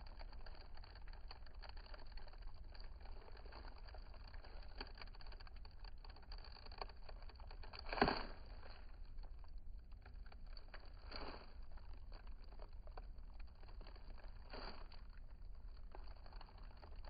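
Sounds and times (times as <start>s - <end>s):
bubble wrap crinkling and crackling: 0.0s - 17.0s.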